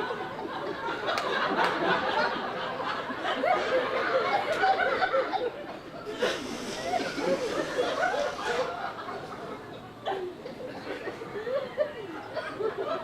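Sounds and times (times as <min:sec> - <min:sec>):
audience chatter: 0:00.0 - 0:13.0
audience laughter: 0:00.0 - 0:13.0.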